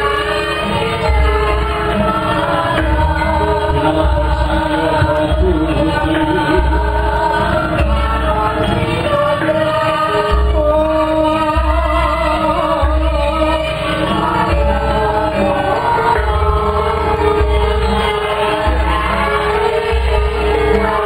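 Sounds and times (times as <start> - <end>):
gamelan ensemble playing: 0.0 - 21.0
voices singing held notes: 0.0 - 21.0.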